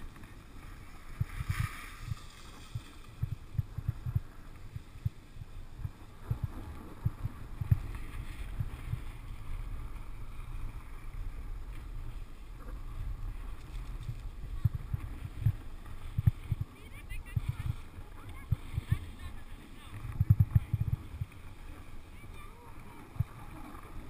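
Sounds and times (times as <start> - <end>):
wind noise: 0.0 - 24.0
snowboard rumbling over snow: 0.8 - 22.4.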